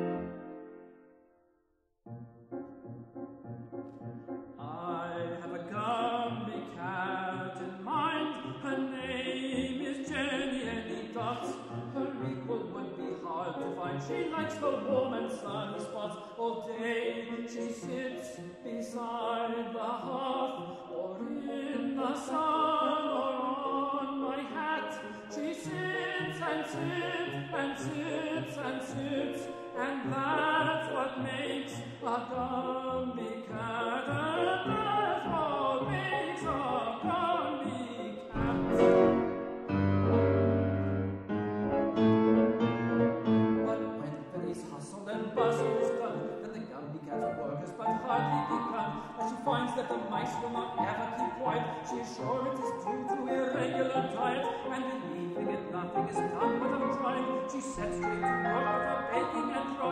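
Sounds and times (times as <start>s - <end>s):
piano accompaniment: 0.0s - 1.4s, 2.1s - 16.1s, 21.3s - 59.9s
tenor singing operatically: 4.6s - 40.8s, 43.5s - 59.9s.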